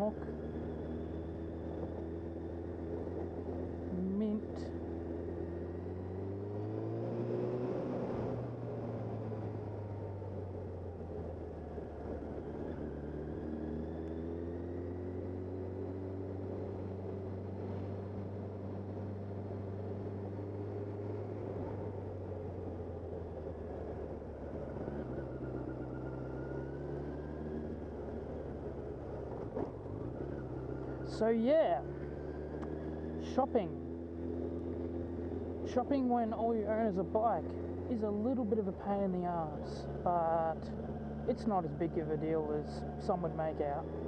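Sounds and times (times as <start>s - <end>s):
motorcycle engine running: 7.7s - 44.0s.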